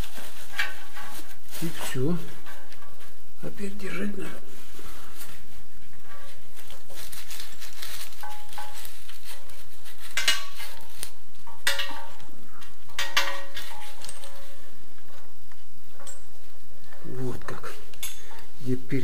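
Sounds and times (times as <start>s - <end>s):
metal hoses clinking and scraping: 0.0s - 19.0s.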